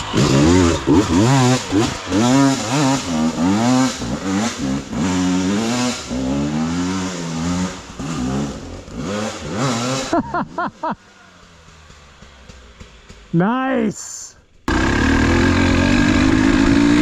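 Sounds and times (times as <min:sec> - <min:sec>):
dirt bike engine revving: 0:00.0 - 0:13.3, 0:14.7 - 0:17.0.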